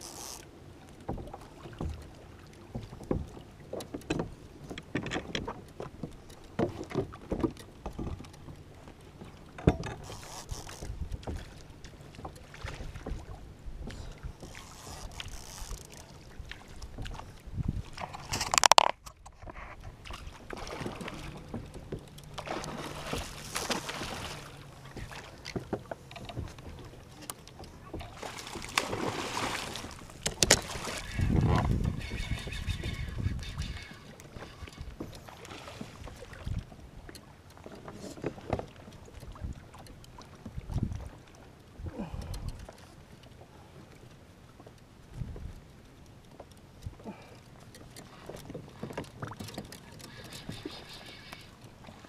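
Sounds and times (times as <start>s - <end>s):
water lapping against kayak hull: 0.0s - 52.0s.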